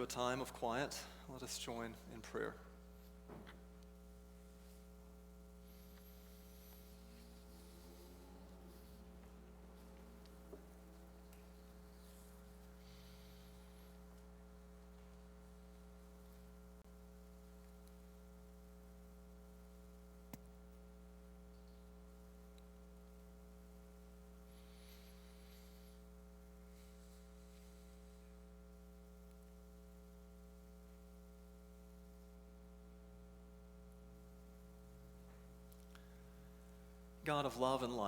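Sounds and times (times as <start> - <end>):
electrical mains hum: 0.0 - 38.0.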